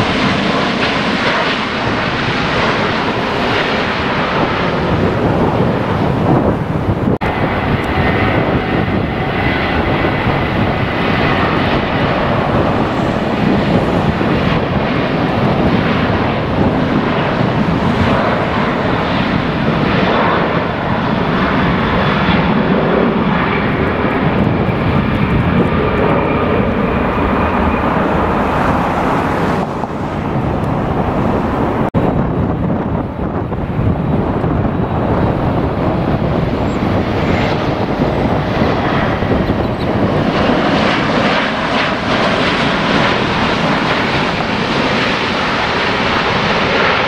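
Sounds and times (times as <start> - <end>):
jet engines roaring at takeoff: 0.0 - 47.0.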